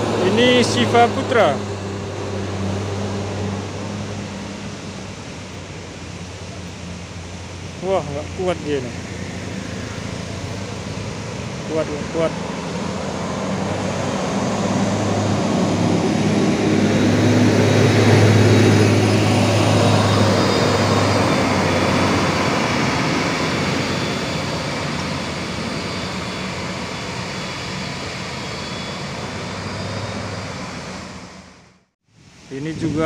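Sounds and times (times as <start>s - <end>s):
bus diesel engine labouring: 0.0s - 31.9s.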